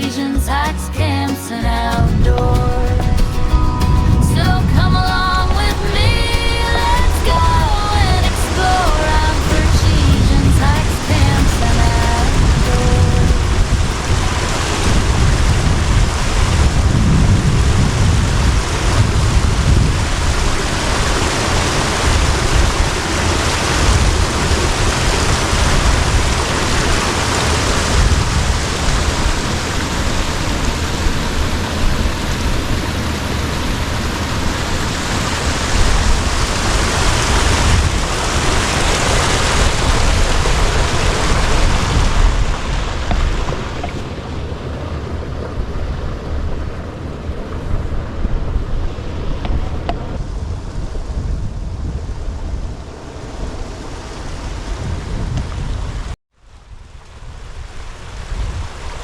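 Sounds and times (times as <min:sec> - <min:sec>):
wind buffeting microphone: 0:01.6 - 0:59.0
wind-driven rain: 0:01.6 - 0:59.0.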